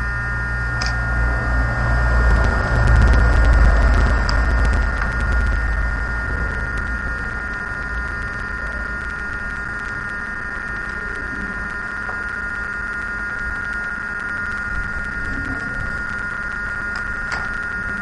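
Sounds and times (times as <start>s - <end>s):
high whine: 0.0s - 18.0s
low rumble: 0.0s - 18.0s.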